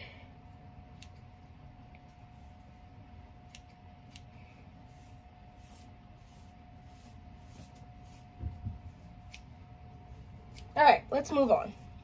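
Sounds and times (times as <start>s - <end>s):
faint steady hum: 0.0s - 12.0s
hair rustling: 1.9s - 12.0s.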